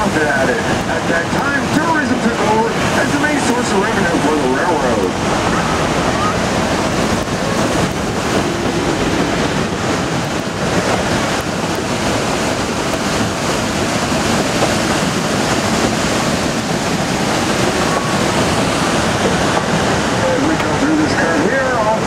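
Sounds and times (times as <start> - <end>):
wind on microphone: 0.0 - 21.5
train running noise: 0.0 - 22.0
whitewater rapids rushing: 0.0 - 22.0.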